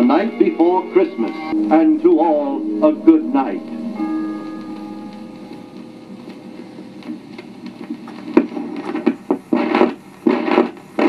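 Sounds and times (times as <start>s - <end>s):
record surface noise and hum: 0.0s - 11.0s.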